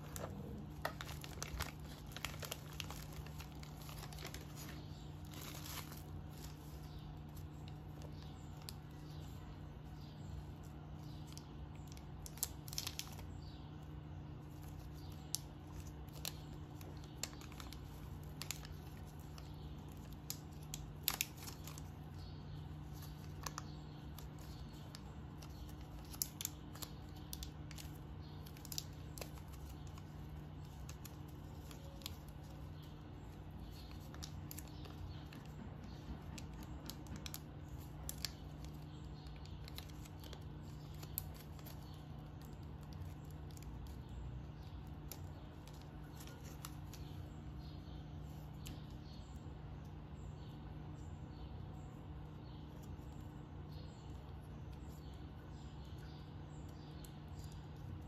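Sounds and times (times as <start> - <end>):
plastic wrap crinkling: 0.0 - 50.0
steady low hum: 0.0 - 58.0.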